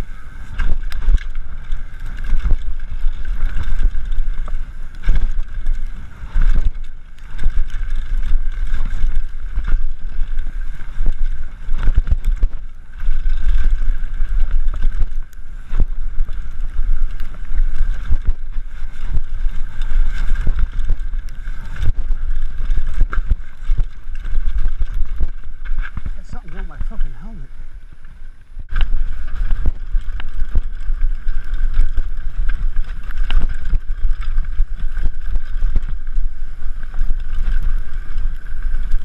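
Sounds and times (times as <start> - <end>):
bike rattling and knocking: 0.0 - 27.4, 28.7 - 39.0
wind buffeting microphone: 0.0 - 39.0.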